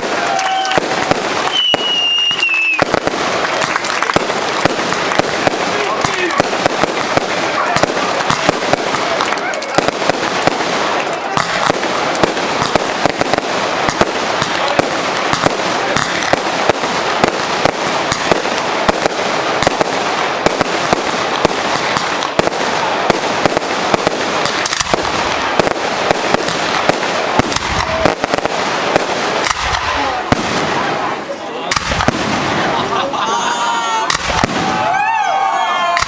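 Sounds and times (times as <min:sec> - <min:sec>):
fireworks popping and crackling: 0:00.0 - 0:33.3, 0:34.0 - 0:36.0.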